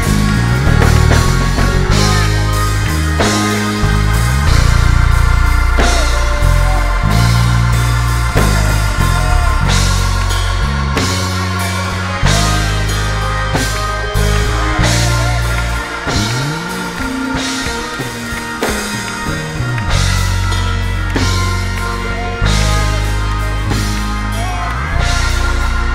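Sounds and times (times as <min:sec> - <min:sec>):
drum kit with cymbal crashes: 0:00.0 - 0:25.9
sustained bass notes: 0:00.0 - 0:25.9.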